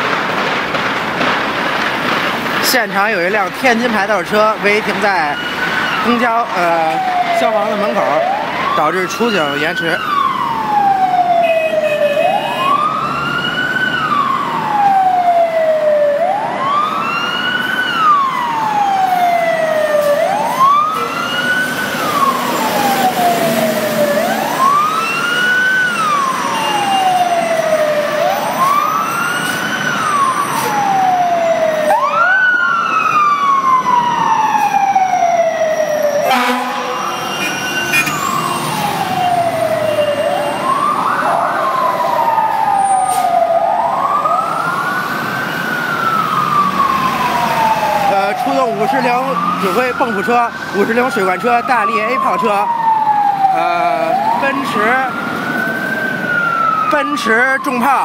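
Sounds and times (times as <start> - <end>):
fire truck siren wailing: 0.0 - 58.0.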